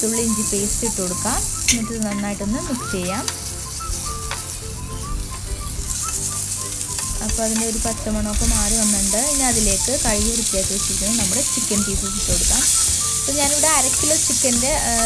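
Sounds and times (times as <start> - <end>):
onions sizzling in hot oil: 0.0 - 15.0
spatula stirring in pan: 0.0 - 15.0.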